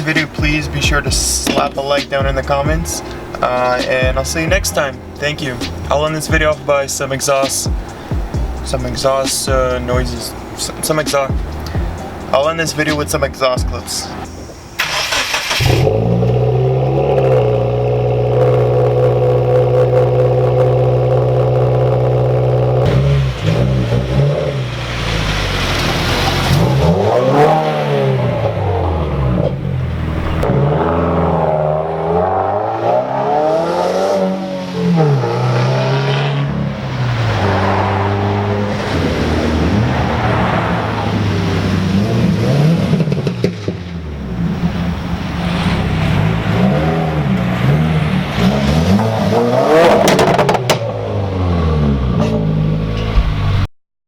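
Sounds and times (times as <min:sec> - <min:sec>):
car engine revving: 0:00.0 - 0:53.7.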